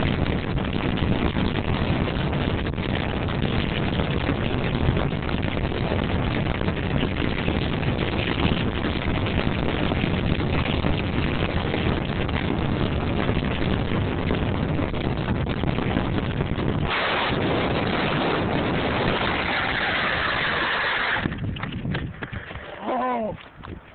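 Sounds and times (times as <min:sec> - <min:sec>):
skateboard wheels rumbling on asphalt: 0:00.0 - 0:23.9
wind rushing over microphone: 0:00.0 - 0:23.9.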